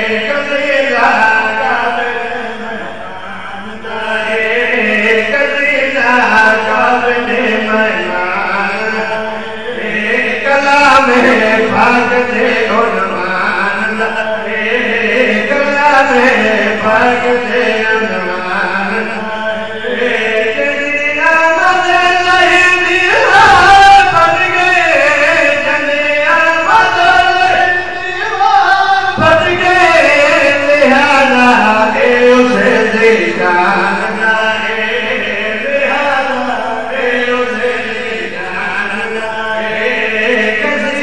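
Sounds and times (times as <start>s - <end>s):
man chanting into a microphone: 0.0s - 41.0s.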